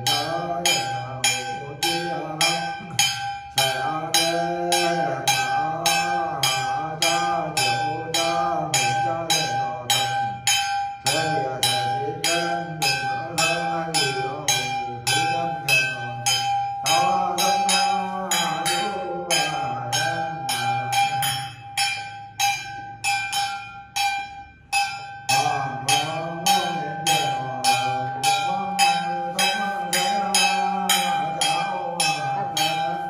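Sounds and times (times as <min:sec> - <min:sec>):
man chanting: 0:00.0 - 0:21.8, 0:25.2 - 0:33.0
small ritual bell struck: 0:00.0 - 0:33.0.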